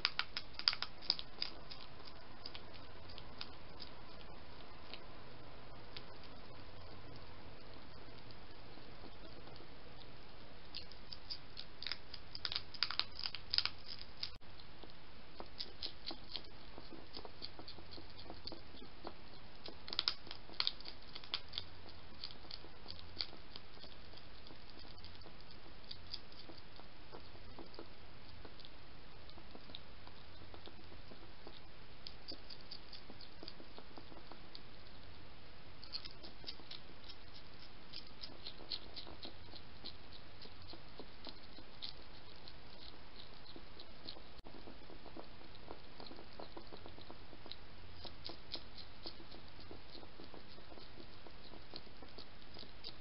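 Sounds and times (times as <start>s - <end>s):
hedgehog chewing: 0.0s - 53.0s.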